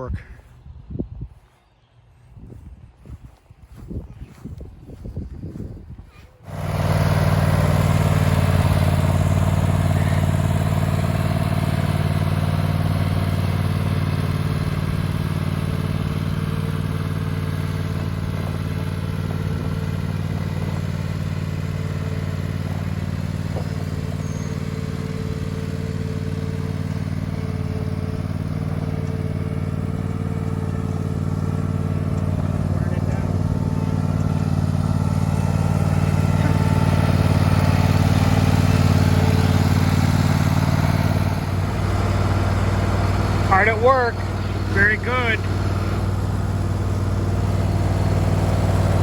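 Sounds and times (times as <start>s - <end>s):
lawnmower engine running: 3.0s - 49.0s.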